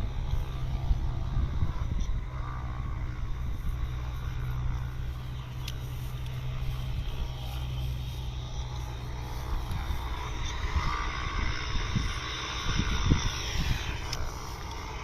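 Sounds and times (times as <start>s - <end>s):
low motor drone: 0.0s - 15.0s.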